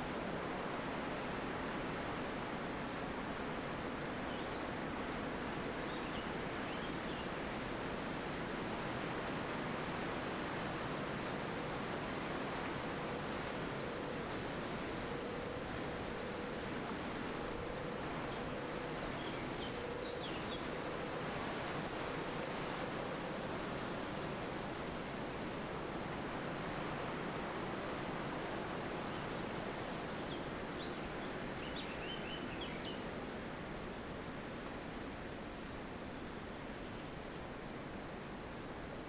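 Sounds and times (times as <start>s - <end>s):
wind rushing through trees: 0.0s - 39.0s.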